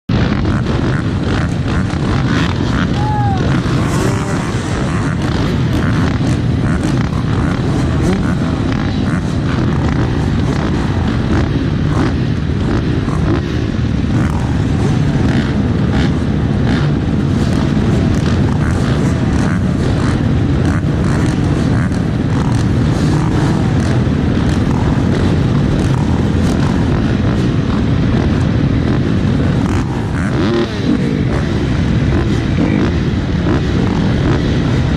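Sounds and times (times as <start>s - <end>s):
dirt bike engine running: 0.1s - 34.9s.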